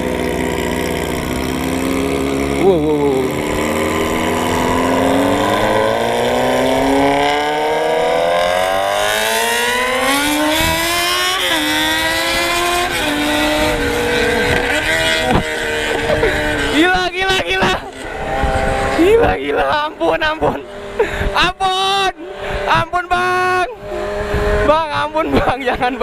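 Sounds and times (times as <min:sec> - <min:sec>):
motorcycle engine accelerating: 0:00.0 - 0:21.4, 0:22.3 - 0:25.9.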